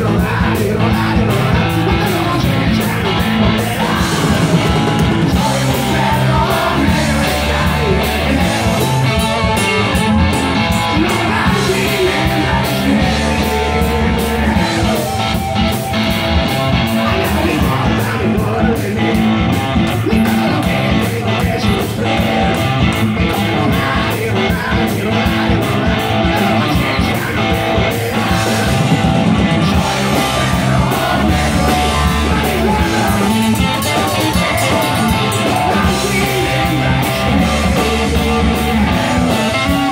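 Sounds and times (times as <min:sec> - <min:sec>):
distorted electric guitars: 0:00.0 - 0:39.9
person singing: 0:00.0 - 0:39.9
steady drum beat: 0:00.0 - 0:39.9.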